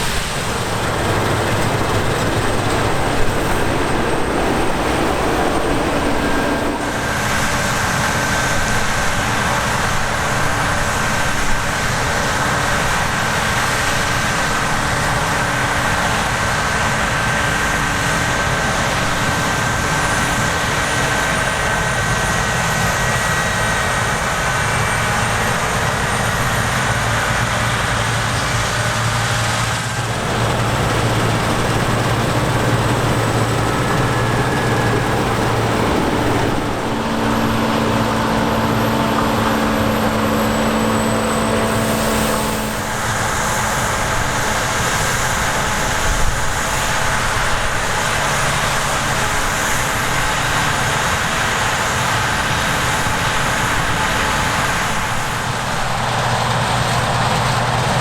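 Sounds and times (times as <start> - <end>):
combine harvester threshing whine: 0.0 - 58.0
diesel engines running: 0.0 - 58.0.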